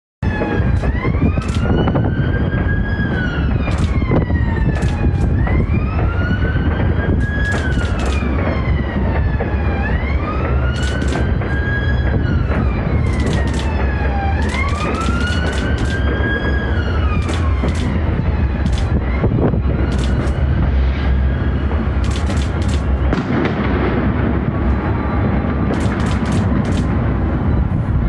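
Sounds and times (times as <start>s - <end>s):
siren wailing: 0.2s - 28.0s
steady low rumble: 0.2s - 28.0s
fireworks cracking and banging: 0.3s - 27.4s.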